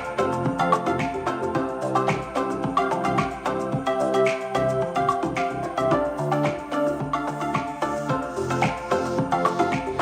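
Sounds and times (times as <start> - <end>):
music through bluetooth speaker: 0.0 - 10.0.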